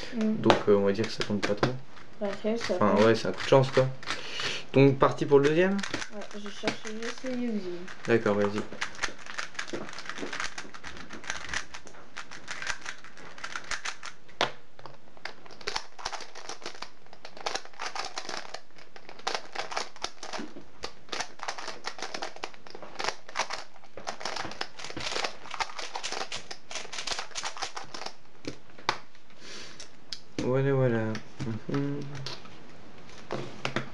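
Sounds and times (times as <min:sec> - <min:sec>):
plastic cube clicking: 0:00.1 - 0:29.1.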